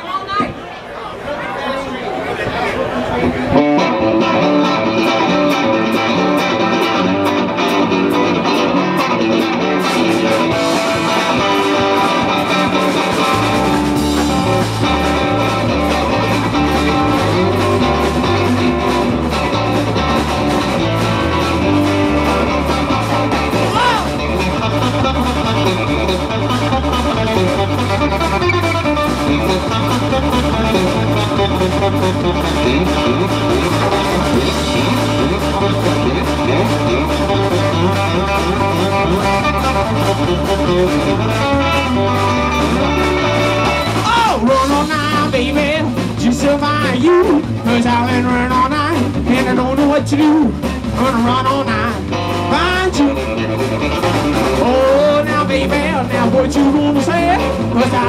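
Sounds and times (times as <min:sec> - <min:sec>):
electric guitars: 0:03.1 - 0:58.0
drum kit: 0:03.2 - 0:58.0
pulsing bass line: 0:03.6 - 0:58.0.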